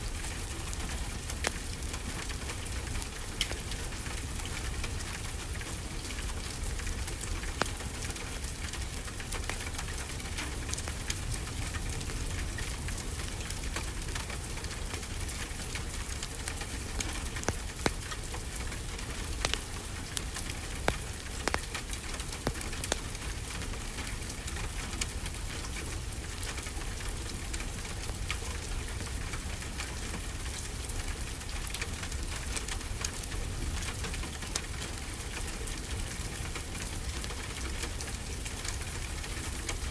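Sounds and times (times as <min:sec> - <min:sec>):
wood fire crackling and popping: 0:00.0 - 0:35.8
steady rain hiss: 0:00.0 - 0:39.9.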